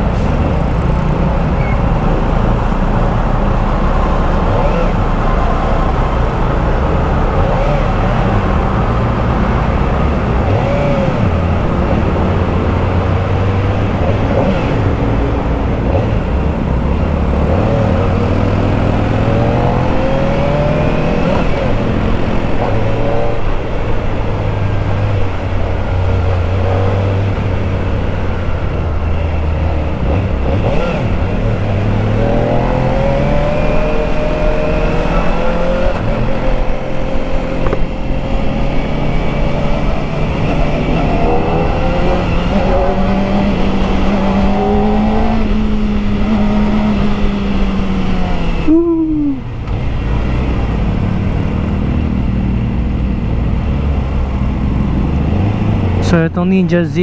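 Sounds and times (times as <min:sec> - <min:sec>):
hum of scooters and motorcycles: 0:00.0 - 0:57.0
motorcycle engine revving: 0:04.3 - 0:56.8.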